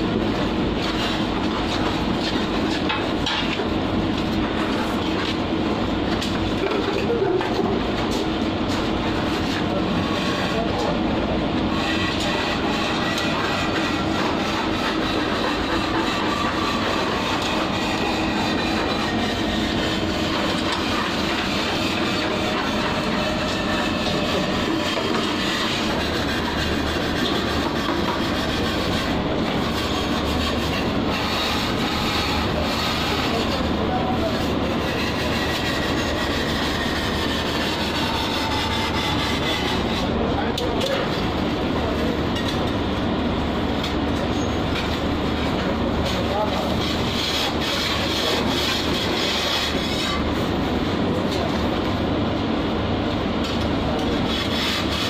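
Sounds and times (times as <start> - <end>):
heavy machinery rumble and hiss: 0.0 - 55.0.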